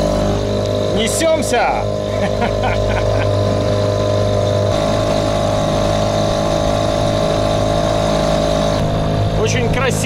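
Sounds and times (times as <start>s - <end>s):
small outboard motor running: 0.0s - 10.0s.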